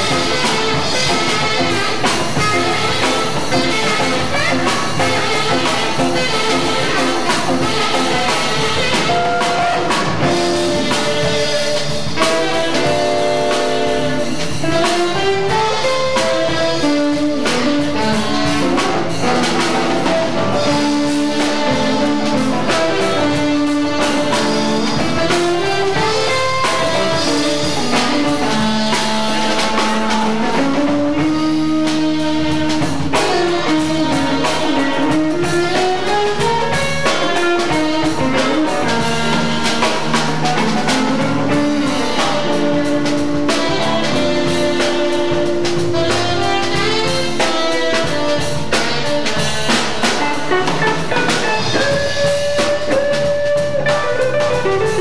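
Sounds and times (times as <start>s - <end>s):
jazz band playing: 0.0s - 55.0s.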